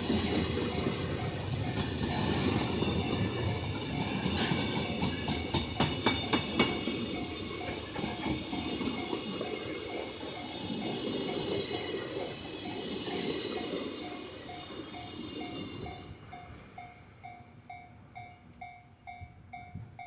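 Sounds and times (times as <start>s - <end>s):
train wheels clicking over rail joints: 0.0s - 18.7s.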